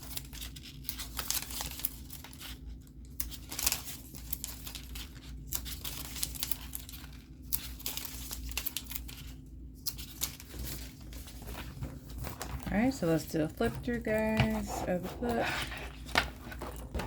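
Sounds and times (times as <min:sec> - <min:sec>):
paper crinkling and rustling: 0:00.0 - 0:17.0.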